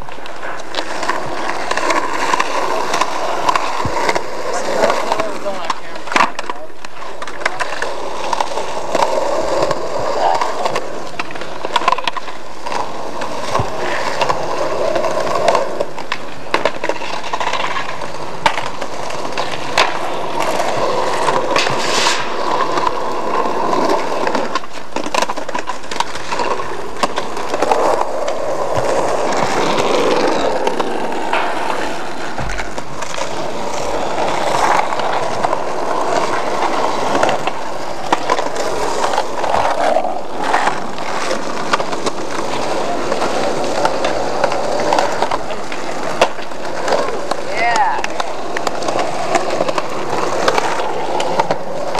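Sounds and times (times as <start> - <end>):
skateboard clacking: 0.0 - 51.9
skateboard wheels rolling on pavement: 0.0 - 51.9.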